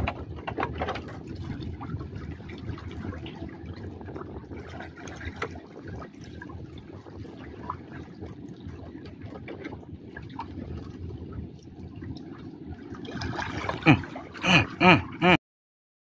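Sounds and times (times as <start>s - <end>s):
water drips and splashes: 0.0s - 14.4s
seawater lapping and sloshing: 0.0s - 15.4s.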